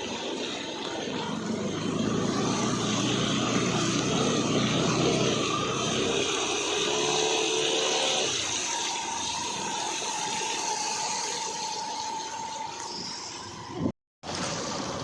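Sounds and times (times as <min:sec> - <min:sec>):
floodwater rushing and splashing: 0:00.0 - 0:15.0.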